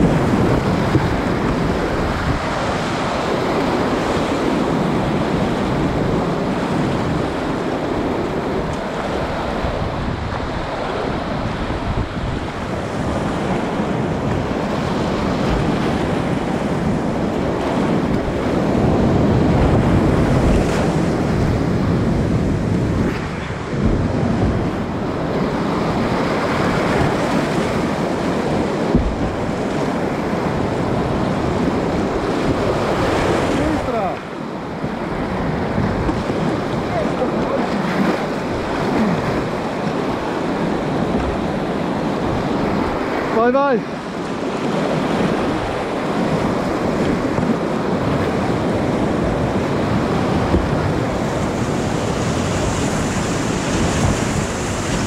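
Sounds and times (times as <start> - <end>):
rushing whitewater: 0.0 - 55.0
wind buffeting microphone: 0.0 - 55.0.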